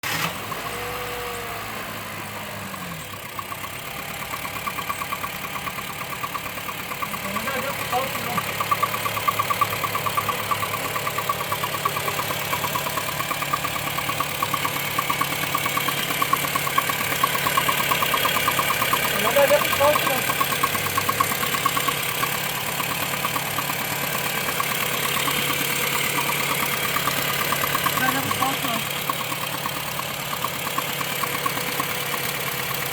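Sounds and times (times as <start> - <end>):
car engine idling: 0.0 - 32.9
engine knocking or ticking: 0.0 - 32.9.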